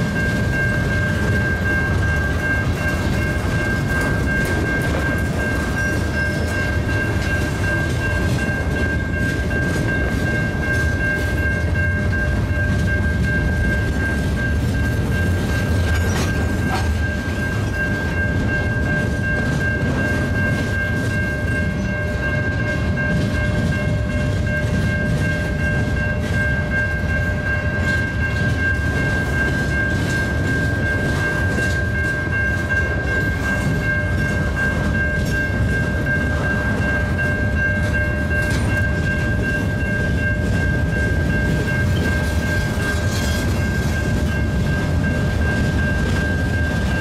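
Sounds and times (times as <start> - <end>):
freight train wheels rumbling: 0.0 - 47.0
high-pitched ringing tone: 0.0 - 47.0.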